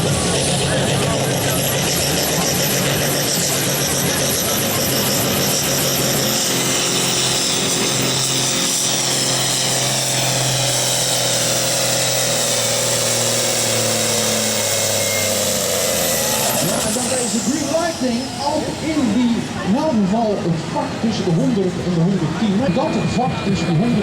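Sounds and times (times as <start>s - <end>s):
tractor engine howling at full throttle: 0.0s - 24.0s.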